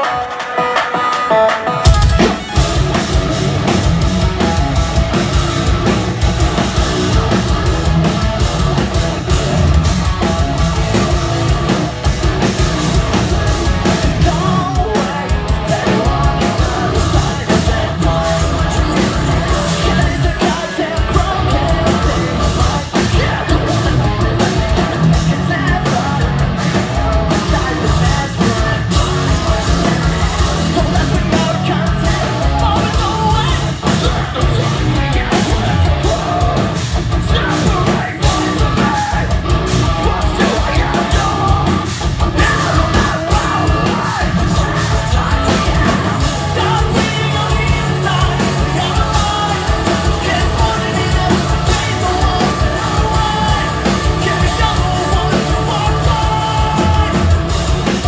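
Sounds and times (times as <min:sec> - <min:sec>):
distorted guitars: 0:00.0 - 0:58.0
heavy fast drums: 0:00.0 - 0:58.0
person singing: 0:08.8 - 0:58.0.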